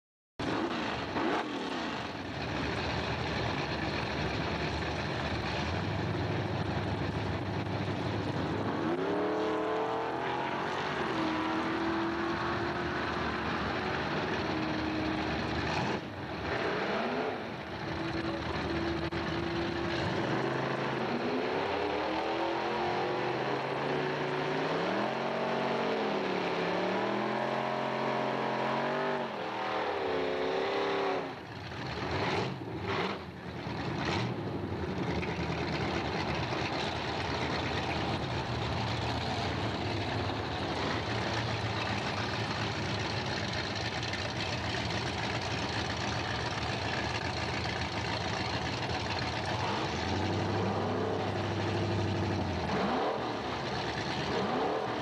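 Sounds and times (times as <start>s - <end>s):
engine roaring and revving: 0.4s - 55.0s.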